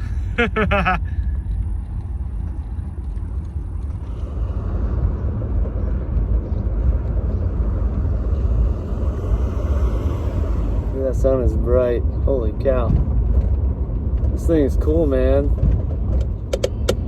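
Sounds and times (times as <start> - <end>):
vehicle rumbling on road: 0.0 - 17.0.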